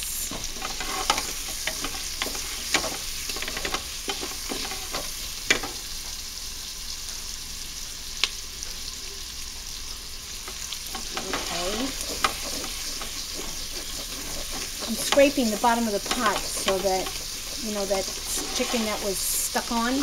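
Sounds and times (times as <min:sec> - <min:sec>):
onions sizzling in a pot: 0:00.0 - 0:20.0.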